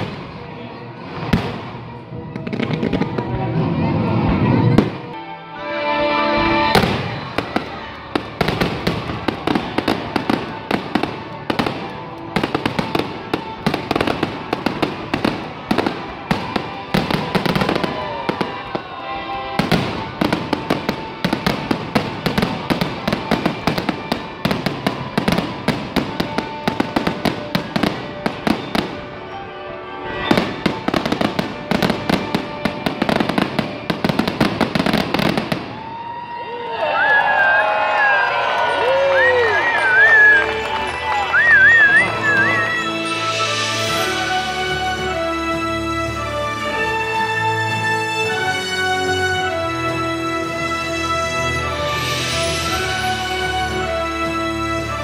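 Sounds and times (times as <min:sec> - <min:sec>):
fireworks bangs and crackles: 0:00.0 - 0:05.2, 0:06.4 - 0:29.4, 0:30.0 - 0:36.3, 0:37.7 - 0:55.0
music playing: 0:00.0 - 0:55.0.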